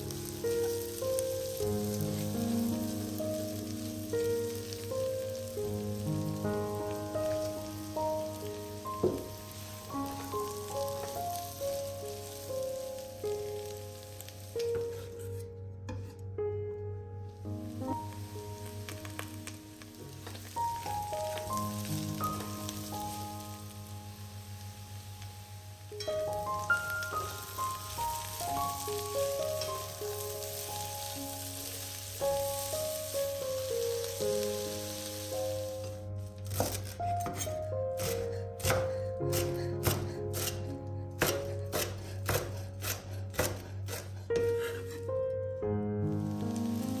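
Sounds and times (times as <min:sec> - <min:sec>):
food sizzling in a wok: 0:00.0 - 0:15.4, 0:17.3 - 0:45.0, 0:46.0 - 0:47.0
soft background melody: 0:00.0 - 0:47.0.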